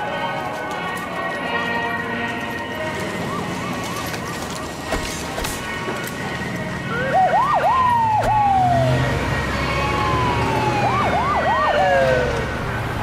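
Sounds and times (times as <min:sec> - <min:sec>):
police siren whooping: 0:01.9 - 0:13.0.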